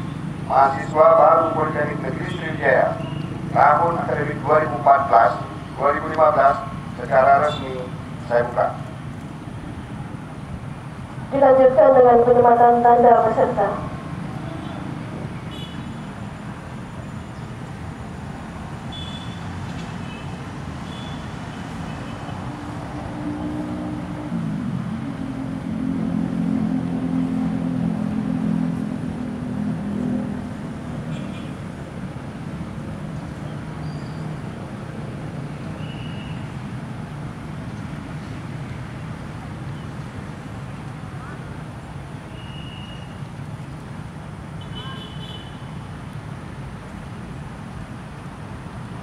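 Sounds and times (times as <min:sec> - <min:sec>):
vehicle engine hum: 0:00.0 - 0:42.3
outdoor background noise: 0:00.0 - 0:49.0.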